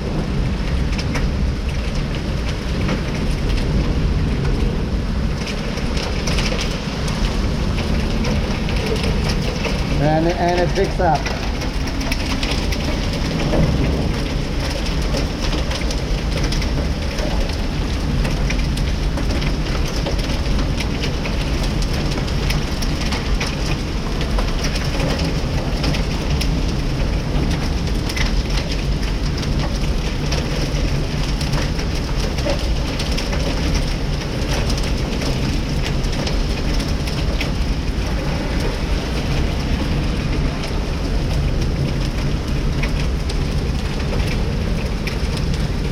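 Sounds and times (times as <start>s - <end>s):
heavy rain: 0.0s - 45.9s
hailstones clicking: 0.2s - 45.9s.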